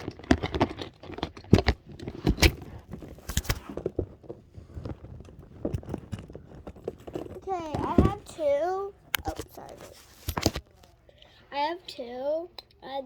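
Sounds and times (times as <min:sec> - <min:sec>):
plastic toys clicking and knocking: 0:00.0 - 0:10.7.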